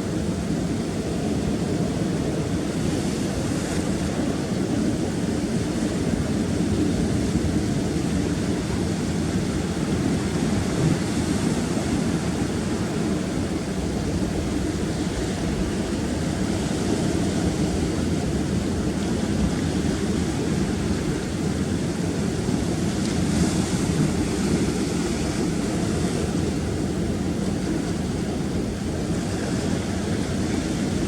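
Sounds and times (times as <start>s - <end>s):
surf breaking against rocks: 2.4s - 31.0s.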